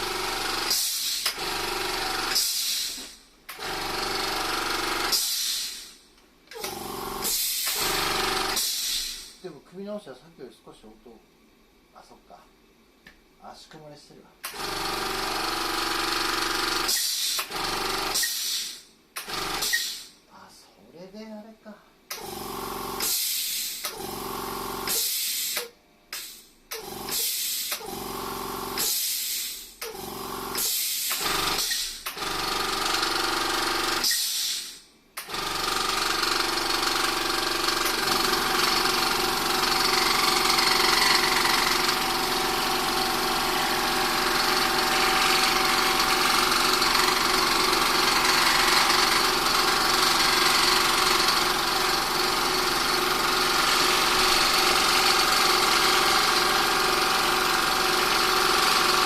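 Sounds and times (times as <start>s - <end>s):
electric air compressor pulsing: 0.0s - 9.4s, 14.4s - 20.1s, 22.1s - 59.0s.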